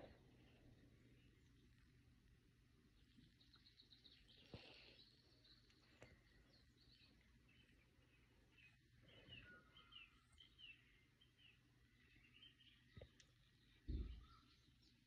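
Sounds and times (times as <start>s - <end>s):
faint high bird chirps: 2.8s - 15.0s.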